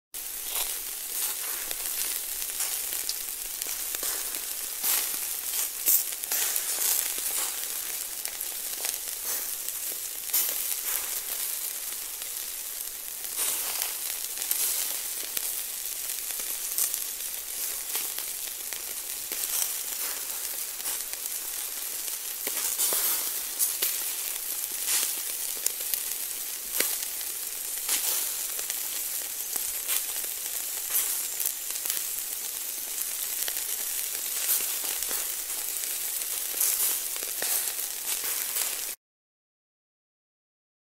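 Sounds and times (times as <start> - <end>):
food sizzling with crackles: 0.2 - 39.0.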